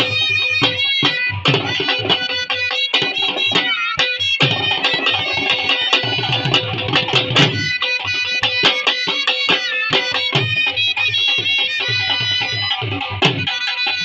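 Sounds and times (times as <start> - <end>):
drums beaten with sticks: 0.0 - 14.0.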